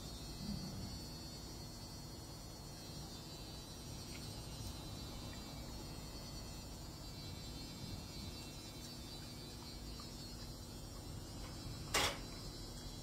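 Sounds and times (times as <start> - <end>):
faint electrical hum: 0.0 - 13.0
room hiss: 0.0 - 13.0.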